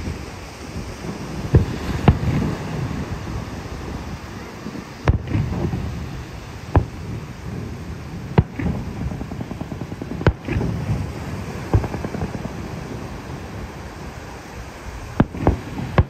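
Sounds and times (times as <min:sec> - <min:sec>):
firework crackling: 0:00.0 - 0:16.0
firework shells bursting: 0:00.1 - 0:14.2, 0:15.1 - 0:16.0.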